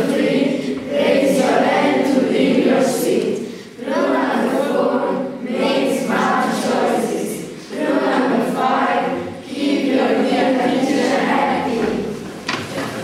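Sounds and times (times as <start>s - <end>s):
children chanting in unison: 0.0s - 12.2s.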